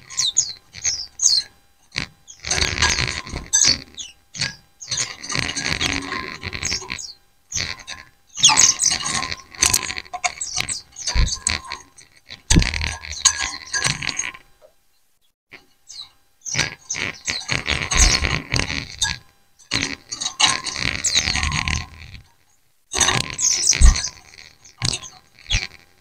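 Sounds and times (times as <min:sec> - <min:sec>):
birds twittering: 0:00.0 - 0:25.9.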